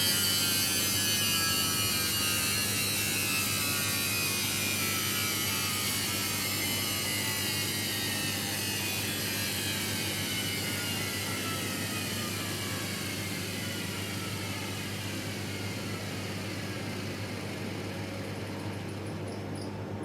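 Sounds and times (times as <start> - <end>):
washing machine drum motor whine: 0.0 - 20.0.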